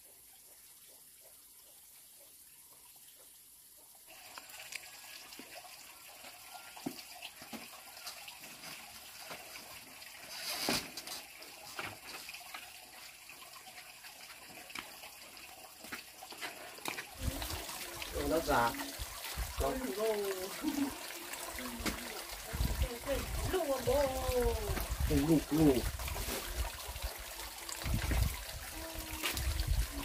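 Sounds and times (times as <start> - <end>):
water running and trickling: 0.0 - 30.0.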